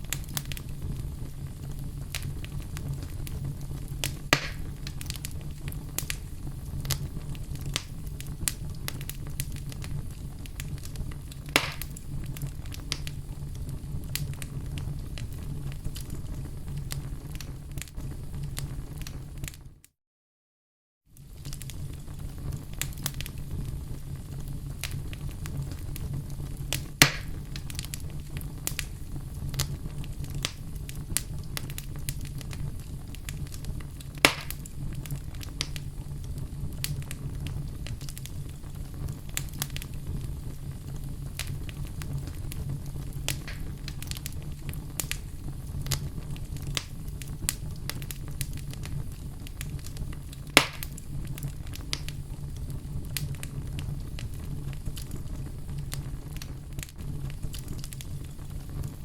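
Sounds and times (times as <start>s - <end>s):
loud fire pops: 0.0s - 19.6s, 21.2s - 59.0s
fire crackling in fireplace: 0.0s - 19.9s, 21.1s - 59.0s.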